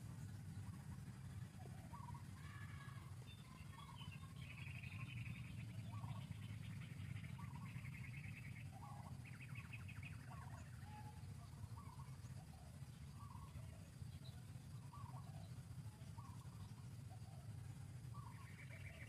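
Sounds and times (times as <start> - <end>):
faint bird trills and chirps: 0.0 - 19.0
low steady hum: 0.0 - 19.0.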